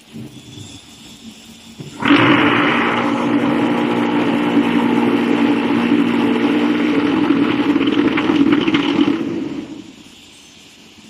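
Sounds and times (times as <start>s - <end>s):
crackling: 0.0s - 10.3s
machine running steadily: 0.0s - 11.0s
rough hissing noise: 0.0s - 11.0s.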